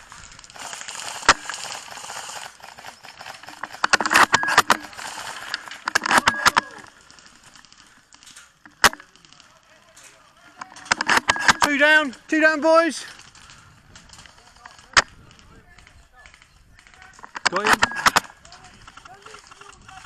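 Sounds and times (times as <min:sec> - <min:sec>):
airsoft gun clicks and rattles: 0:00.0 - 0:20.0
sharp crack: 0:00.0 - 0:20.0.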